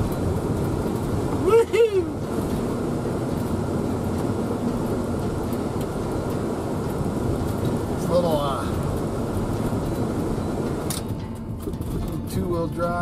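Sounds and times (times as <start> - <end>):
van engine and tyre noise in slush: 0.0 - 13.0.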